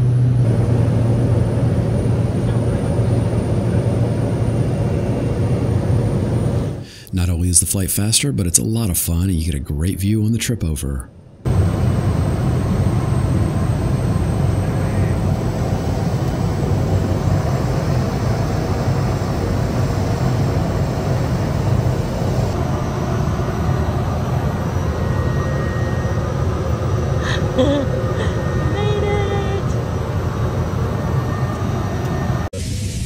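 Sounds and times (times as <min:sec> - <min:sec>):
plane engine and propeller drone: 0:00.0 - 0:33.0.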